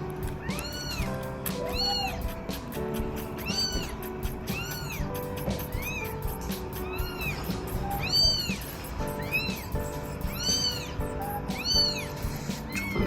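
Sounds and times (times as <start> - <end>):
background music: 0.0 - 13.0
kitten meowing: 0.2 - 13.0.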